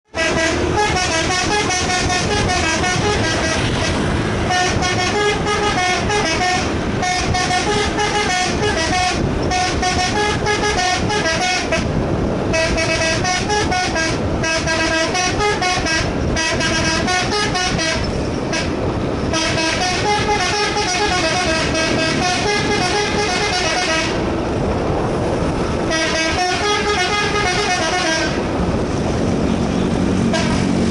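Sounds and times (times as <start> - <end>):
bus air horn melody: 0.1 - 24.4, 25.8 - 28.5, 29.5 - 30.9
low vehicle rumble: 0.1 - 30.9.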